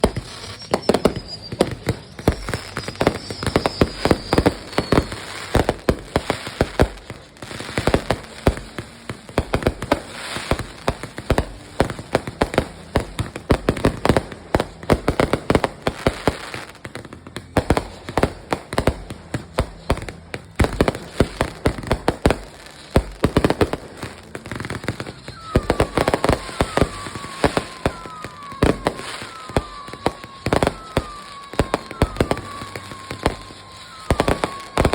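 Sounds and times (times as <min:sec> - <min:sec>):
falling firework whistles: 0:00.0 - 0:34.9
fireworks bangs and crackles: 0:00.0 - 0:34.9.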